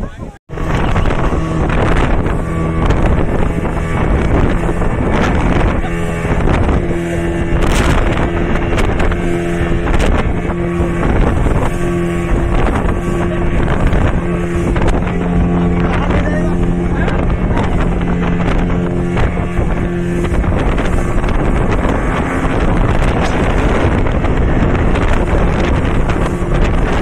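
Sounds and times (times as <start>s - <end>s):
motorboat engine humming: 0.0s - 27.0s
wind buffeting microphone: 0.0s - 27.0s.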